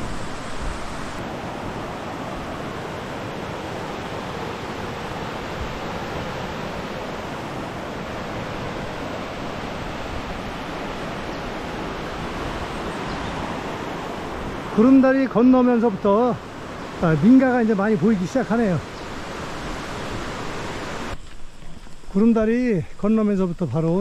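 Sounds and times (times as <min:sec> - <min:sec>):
stream rushing over rocks: 0:00.0 - 0:21.4.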